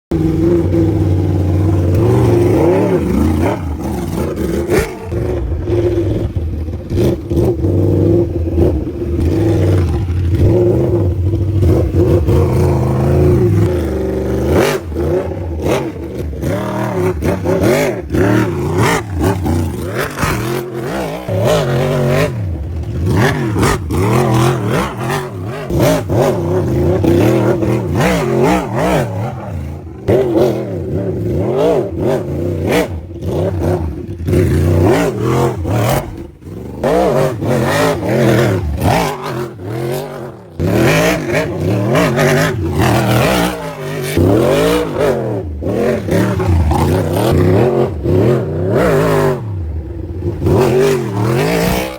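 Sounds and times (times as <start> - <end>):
motorcycle engines revving: 0.1 - 51.9.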